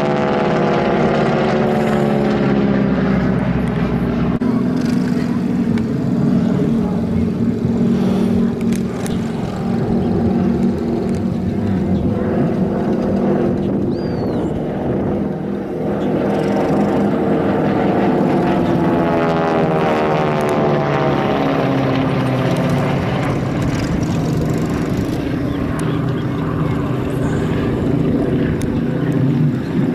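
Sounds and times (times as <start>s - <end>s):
propeller aircraft droning: 0.0s - 29.9s.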